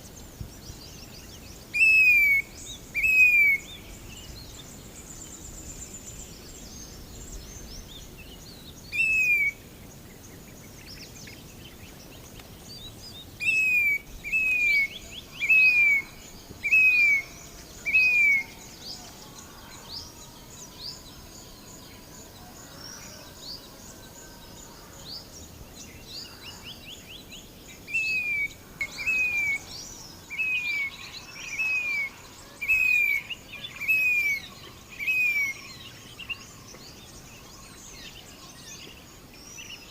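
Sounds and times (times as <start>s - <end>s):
faint chirps of other birds: 0.0s - 39.9s.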